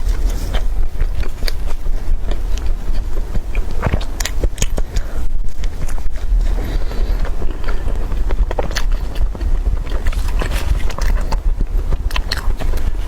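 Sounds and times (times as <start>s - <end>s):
person chewing crunchy food: 0.0s - 13.0s
steady low rumble: 0.0s - 13.0s.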